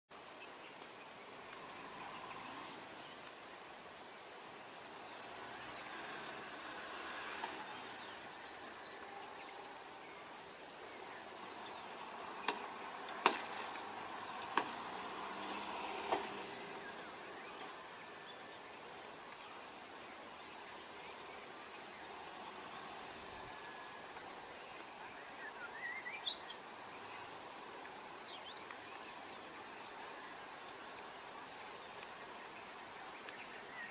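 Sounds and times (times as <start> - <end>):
insects droning: 0.1 - 33.9.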